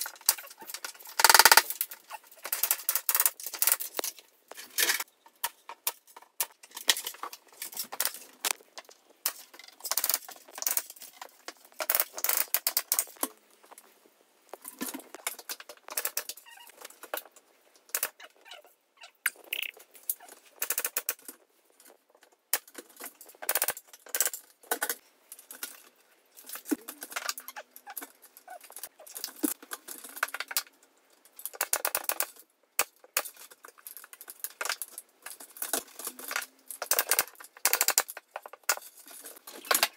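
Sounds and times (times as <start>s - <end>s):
led strip clicking and crackling: 0.0s - 13.9s, 19.2s - 39.9s.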